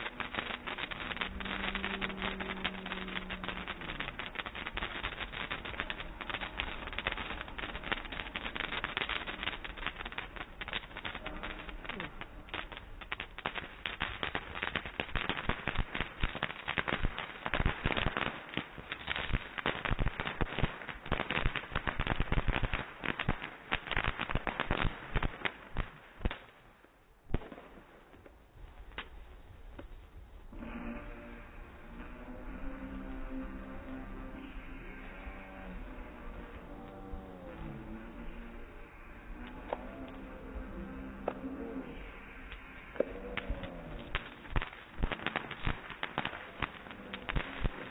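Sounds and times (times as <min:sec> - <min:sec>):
fireworks crackling and popping: 0:00.0 - 0:47.9.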